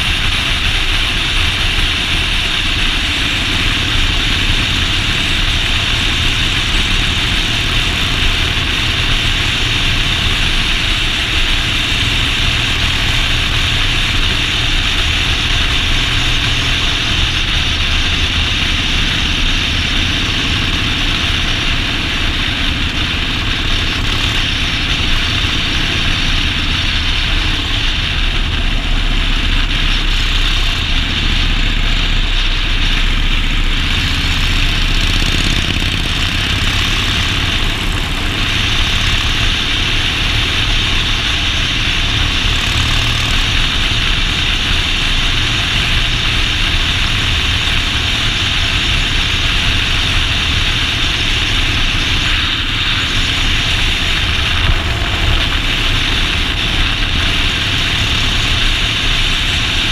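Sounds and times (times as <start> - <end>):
motorcycle engine running: 0.0 - 59.9
steady rushing noise: 0.0 - 59.9.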